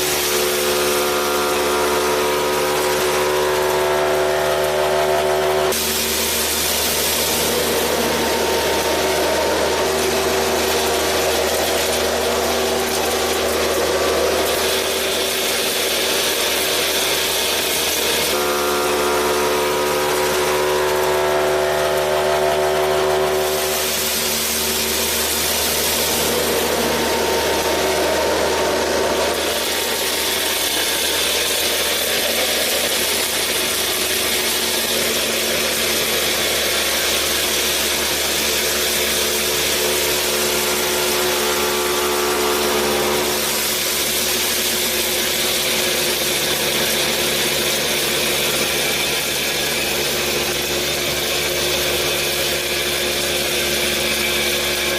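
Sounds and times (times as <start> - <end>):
electric motor whining: 0.0 - 54.9
gears grinding rattle: 0.0 - 54.9.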